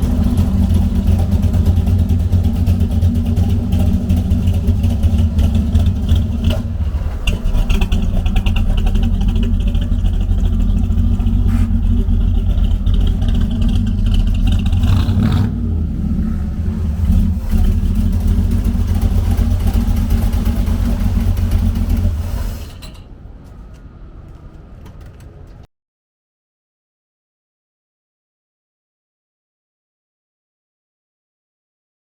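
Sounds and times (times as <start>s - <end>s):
truck engine rumbling: 0.0s - 25.7s.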